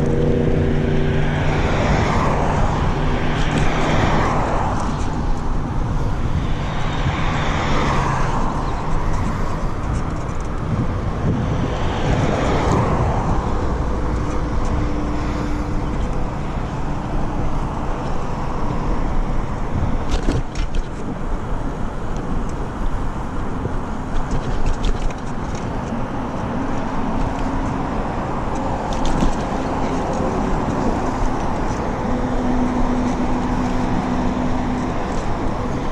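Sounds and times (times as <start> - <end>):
passing car traffic: 0.0 - 35.9
road noise: 0.0 - 35.9.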